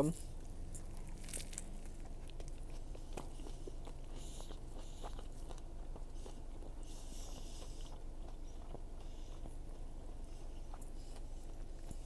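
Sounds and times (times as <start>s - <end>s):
steady low hum: 0.0s - 12.0s
person chewing: 0.3s - 12.0s.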